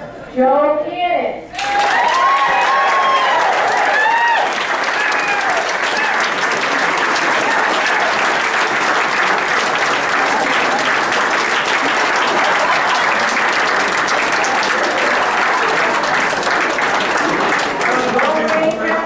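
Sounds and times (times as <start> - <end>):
crowd applauding: 1.5 - 19.0.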